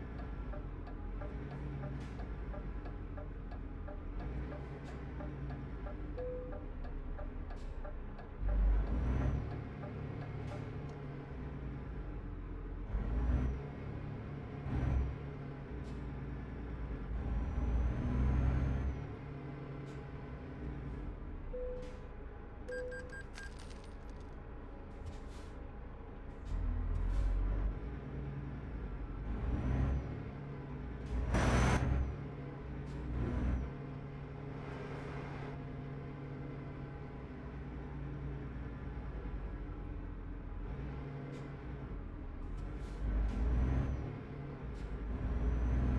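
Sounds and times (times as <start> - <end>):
truck engine rumbling: 0.0 - 45.9.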